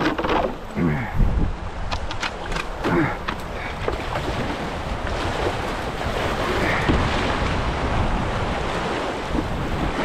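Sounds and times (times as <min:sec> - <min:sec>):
water rushing over rocks: 0:00.0 - 0:10.0
wind buffeting microphone: 0:00.6 - 0:10.0.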